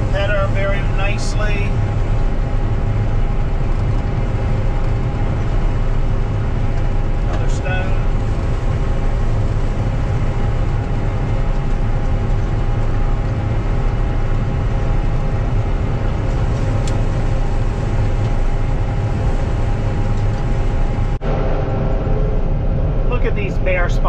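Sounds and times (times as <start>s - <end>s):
combine engine and threshing drone: 0.0s - 24.0s
faint machine whine: 0.0s - 24.0s.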